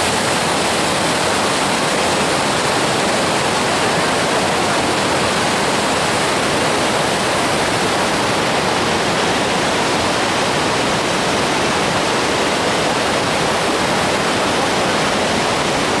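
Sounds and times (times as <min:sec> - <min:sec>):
water cascading over rocks: 0:00.0 - 0:16.0.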